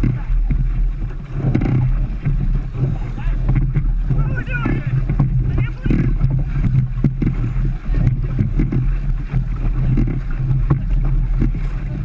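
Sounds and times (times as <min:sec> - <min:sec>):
oars knocking: 0:00.0 - 0:12.0
water splashing: 0:00.0 - 0:12.0
wind rumbling on microphone: 0:00.0 - 0:12.0.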